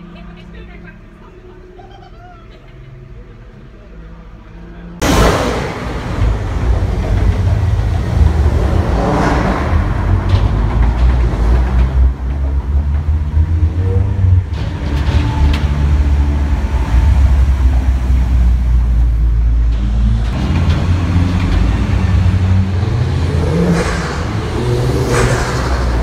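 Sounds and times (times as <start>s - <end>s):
car engines revving in tunnel: 3.1s - 26.0s.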